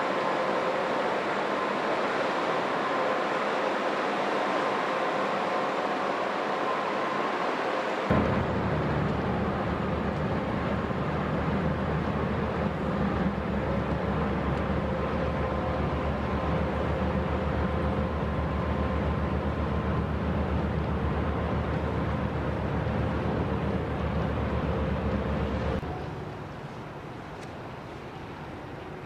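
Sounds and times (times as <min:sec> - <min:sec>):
ship diesel engine throbbing: 0:00.0 - 0:27.1
steady engine whine: 0:00.0 - 0:27.1.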